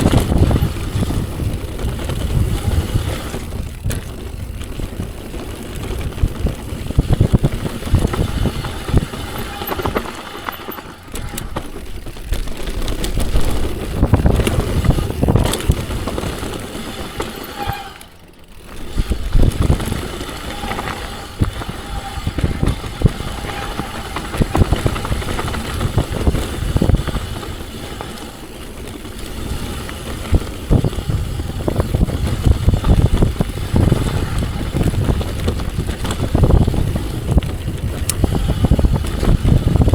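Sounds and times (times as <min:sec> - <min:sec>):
wind on microphone: 0:00.0 - 0:17.9, 0:18.8 - 0:39.9
bike rattling and knocking: 0:00.0 - 0:39.9
tyres on dirt: 0:00.0 - 0:39.9.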